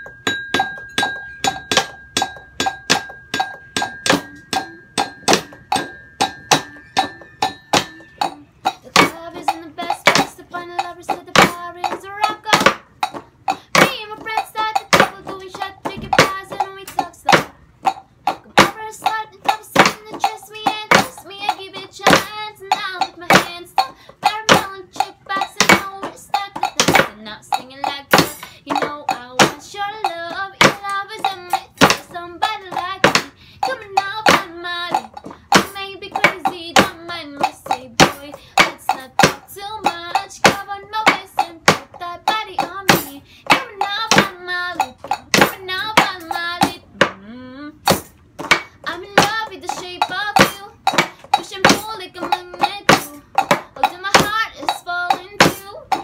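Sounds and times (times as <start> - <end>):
hand percussion on household objects: 0.0 - 56.0
person singing melody: 3.8 - 17.6, 18.3 - 48.0, 48.9 - 56.0.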